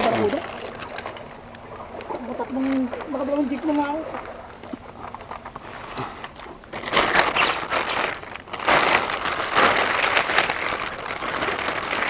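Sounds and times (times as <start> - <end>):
plastic bag rustling: 2.1 - 12.0.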